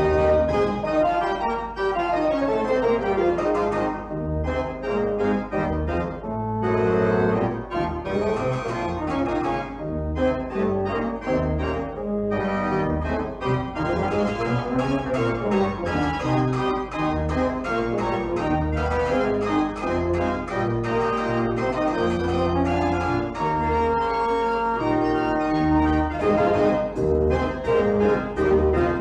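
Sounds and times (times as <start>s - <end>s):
held organ chords: 0.0s - 29.0s.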